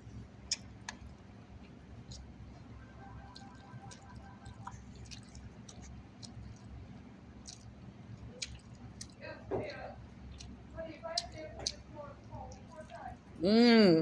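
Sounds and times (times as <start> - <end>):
close chewing: 0.1 - 13.4.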